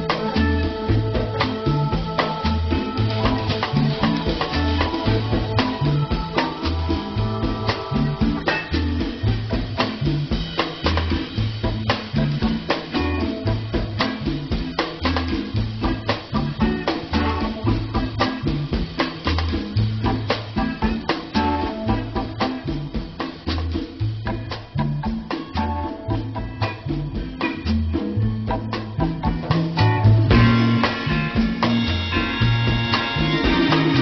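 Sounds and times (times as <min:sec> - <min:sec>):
drum-kit beat: 0:00.0 - 0:34.0
pulsing bass line: 0:00.0 - 0:34.0.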